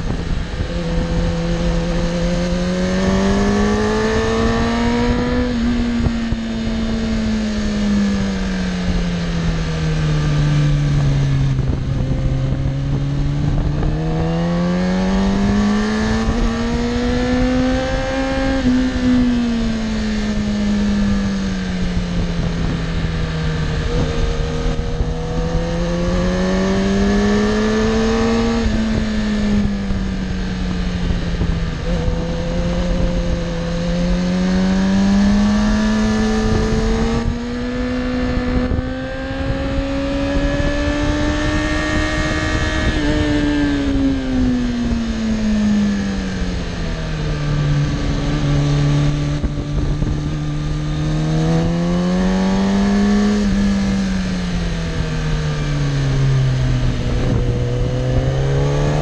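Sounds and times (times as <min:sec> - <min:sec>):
motorcycle engine accelerating: 0:00.0 - 0:59.0
wind noise: 0:00.0 - 0:59.0.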